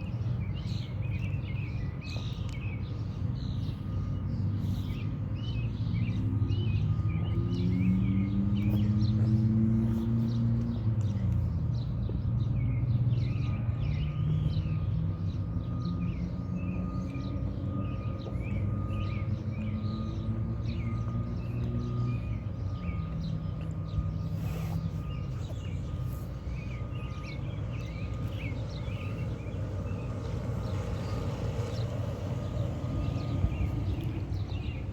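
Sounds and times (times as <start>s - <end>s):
engine humming: 0.0s - 34.9s
small birds chirping: 0.0s - 34.9s.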